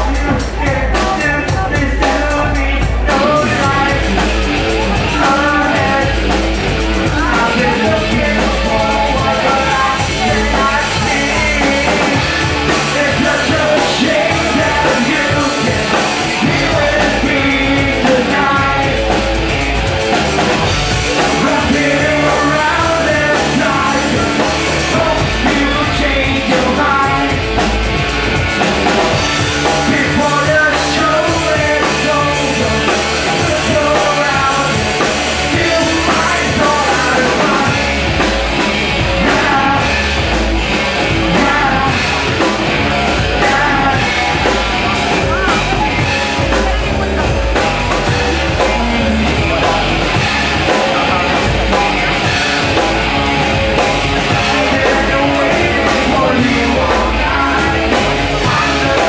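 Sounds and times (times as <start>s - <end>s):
drum kit and cymbals: 0.0s - 59.0s
rock band playing: 0.0s - 59.0s.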